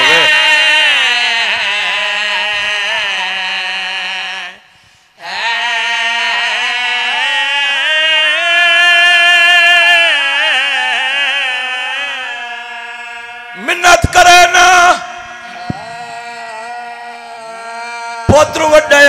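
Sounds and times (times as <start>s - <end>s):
man singing lament: 0.0s - 19.0s.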